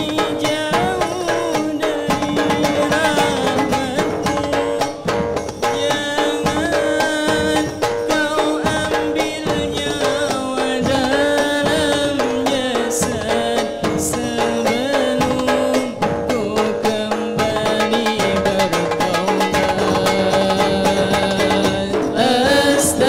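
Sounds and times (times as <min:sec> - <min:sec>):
frame drums: 0:00.0 - 0:23.0
man singing through microphone: 0:00.0 - 0:23.0.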